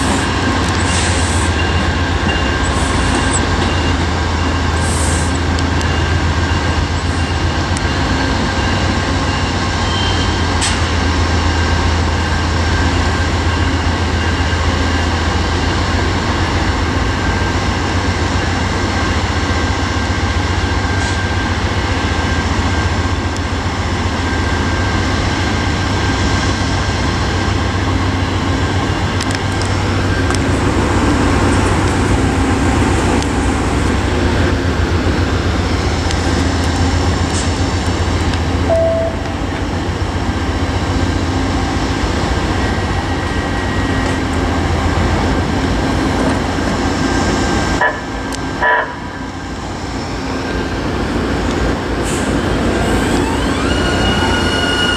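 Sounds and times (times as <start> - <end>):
diesel locomotives droning: 0.0 - 54.9.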